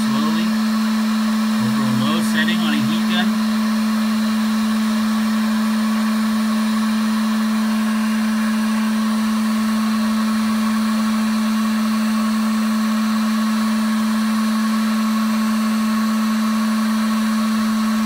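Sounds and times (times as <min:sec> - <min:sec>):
heat gun blowing: 0:00.0 - 0:18.0.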